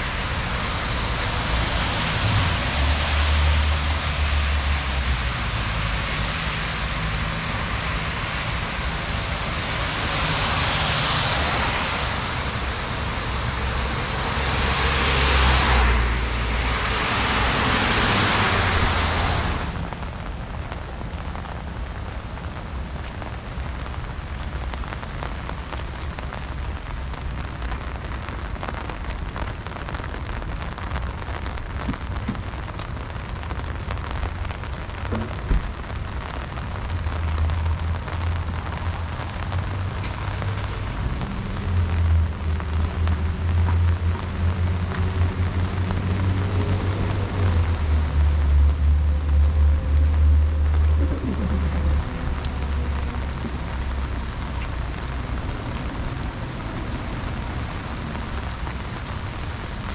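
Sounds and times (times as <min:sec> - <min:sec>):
heavy rain falling: 0:00.0 - 0:59.9
tyres hissing on wet road: 0:00.0 - 0:59.9.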